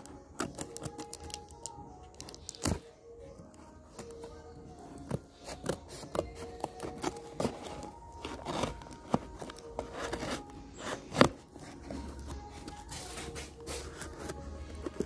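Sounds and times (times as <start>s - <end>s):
scissors snipping tape and cardboard: 0.0s - 2.9s, 5.0s - 15.0s.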